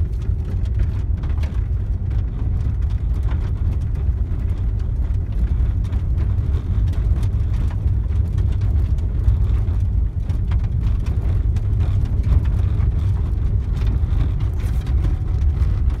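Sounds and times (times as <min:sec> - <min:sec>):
car rumble from inside cabin: 0:00.0 - 0:16.0
tyres crackling on snow: 0:00.0 - 0:16.0.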